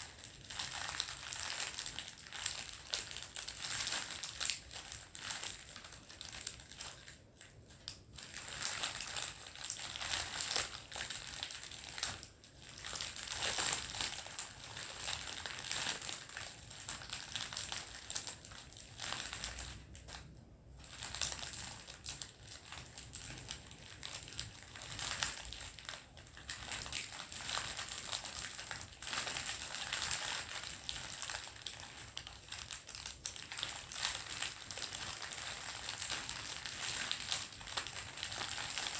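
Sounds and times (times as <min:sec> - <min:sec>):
plastic wrappers crinkling: 0:00.0 - 0:38.9.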